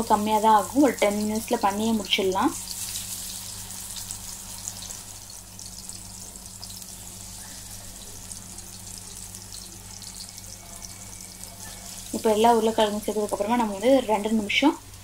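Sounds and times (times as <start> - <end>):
potato slices sizzling in oil: 0.0 - 15.0.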